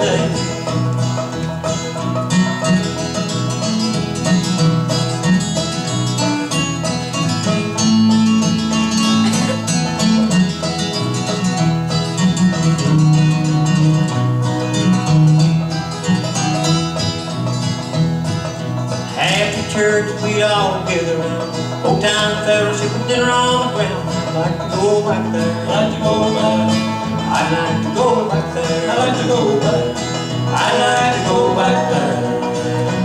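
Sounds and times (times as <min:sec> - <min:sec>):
band playing bluegrass: 0:00.0 - 0:33.0
plucked strings: 0:00.0 - 0:33.0.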